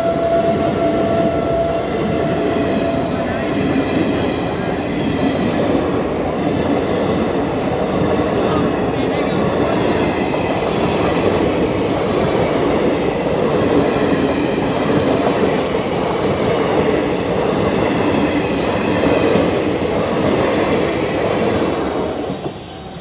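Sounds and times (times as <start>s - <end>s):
train wheels rushing on rails: 0.0s - 23.0s.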